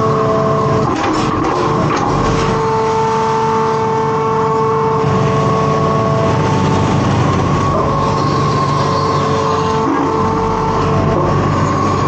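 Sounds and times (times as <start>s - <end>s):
diesel engine running under load: 0.0s - 12.0s
hydraulic whine: 0.0s - 12.0s.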